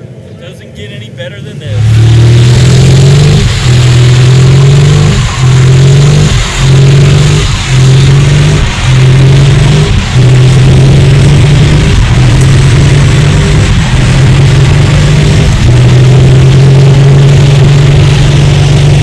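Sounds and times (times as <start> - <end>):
spinning tyres rushing: 0.0 - 19.0
truck engine at high revs: 0.0 - 19.0.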